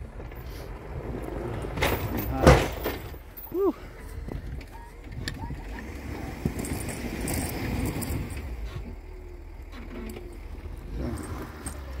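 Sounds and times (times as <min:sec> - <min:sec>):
truck engine rumble: 0:00.0 - 0:12.0.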